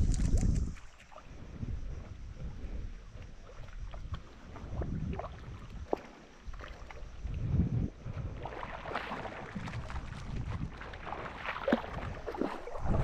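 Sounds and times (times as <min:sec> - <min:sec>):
wind on microphone: 0:00.0 - 0:06.0, 0:06.8 - 0:13.0
water sloshing and splashing: 0:00.0 - 0:13.0.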